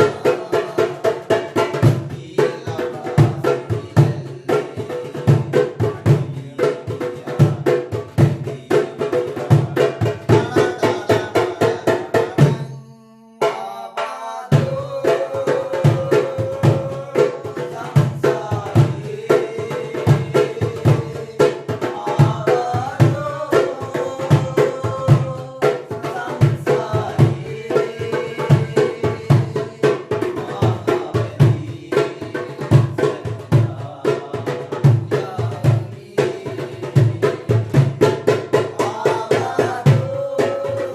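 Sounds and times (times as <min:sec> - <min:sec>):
goblet drum fast rhythm: 0:00.0 - 0:40.9.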